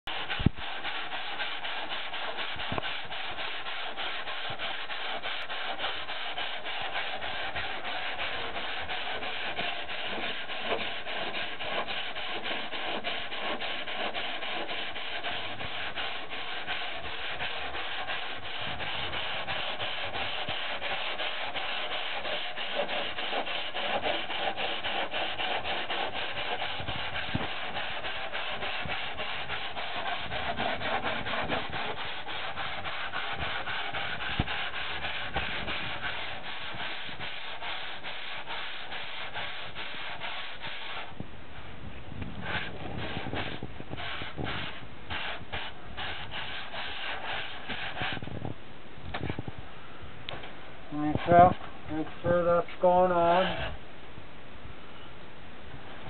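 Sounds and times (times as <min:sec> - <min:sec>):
sanding surfboard: 0:00.1 - 0:41.2, 0:42.4 - 0:48.4, 0:51.0 - 0:51.6.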